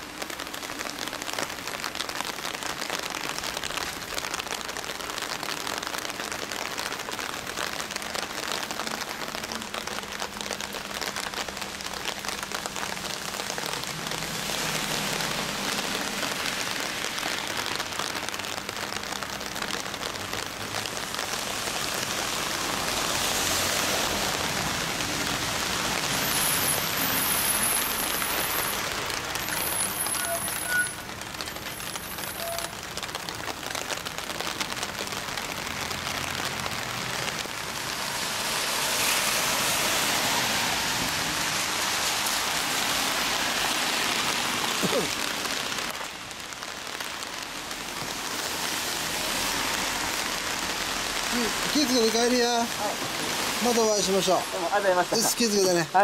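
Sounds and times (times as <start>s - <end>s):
rain on wet pavement: 0.0s - 56.0s.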